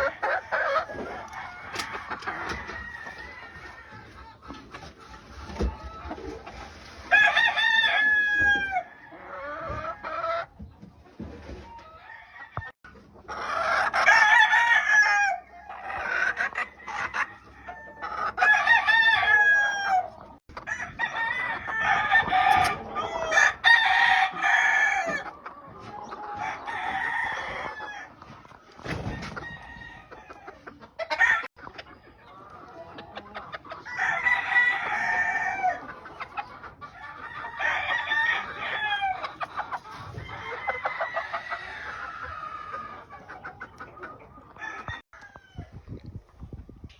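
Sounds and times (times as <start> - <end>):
roosters crowing: 0.0 - 4.3, 7.0 - 10.5, 11.7 - 28.2, 28.8 - 31.5, 33.2 - 43.3, 44.5 - 45.7.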